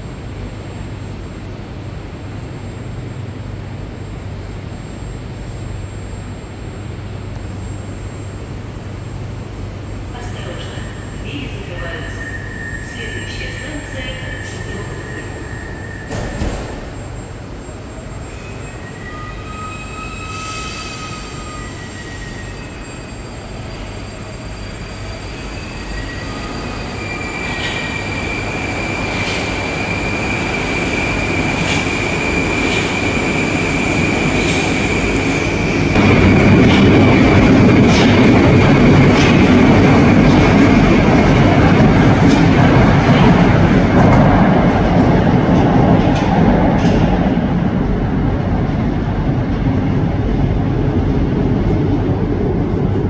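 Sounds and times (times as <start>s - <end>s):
electric whine of train motor: 0.0s - 44.0s
metro train rumble: 0.0s - 53.0s.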